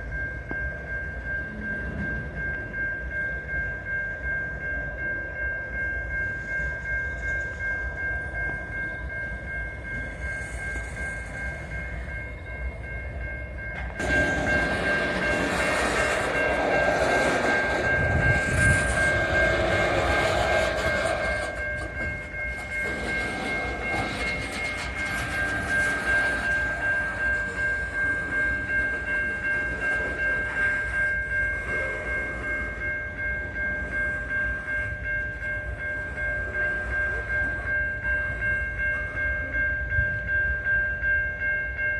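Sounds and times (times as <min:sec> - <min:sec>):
steady high-pitched tone: 0:00.0 - 0:41.9
train wheels rumbling on rail: 0:00.0 - 0:41.9.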